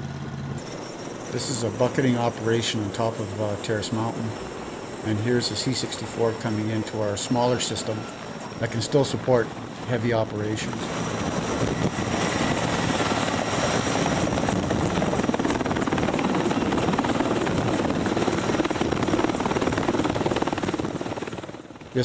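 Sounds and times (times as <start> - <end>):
helicopter rotor and turbine noise: 0.0 - 22.0.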